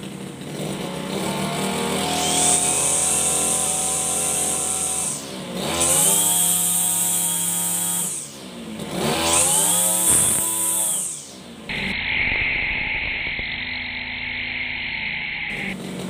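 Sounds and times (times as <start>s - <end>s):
brush cutter engine revving: 0.0s - 13.7s, 15.5s - 16.0s.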